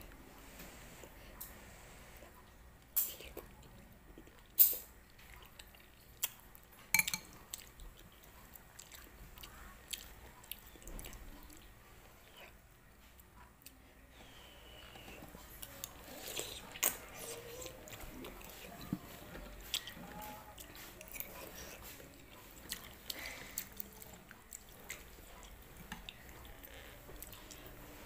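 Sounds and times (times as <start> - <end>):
chewing and wet mouth noises: 2.8 - 28.0.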